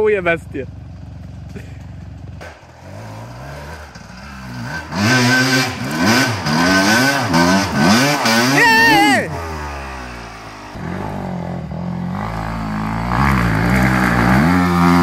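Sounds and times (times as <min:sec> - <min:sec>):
dirt bike engine revving: 0:02.4 - 0:15.0.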